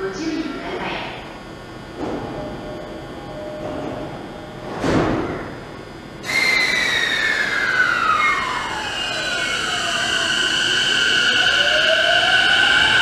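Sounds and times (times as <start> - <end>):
train inverter whine: 0.0 - 13.0.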